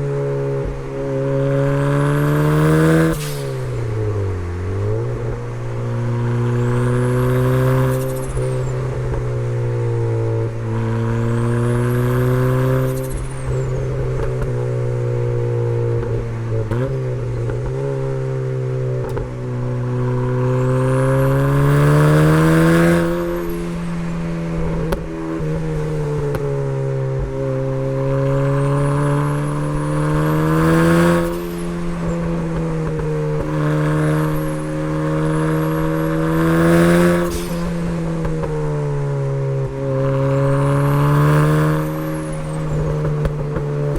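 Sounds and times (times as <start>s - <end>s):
car engine accelerating hard: 0.0s - 43.9s.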